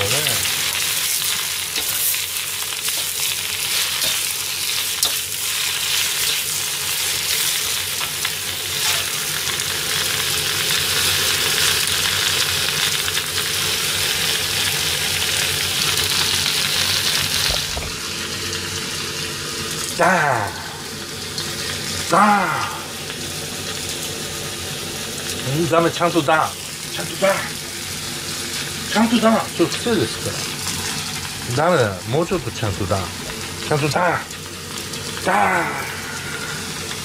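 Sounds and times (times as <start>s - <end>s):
vegetables sizzling in a wok: 0.0s - 37.0s.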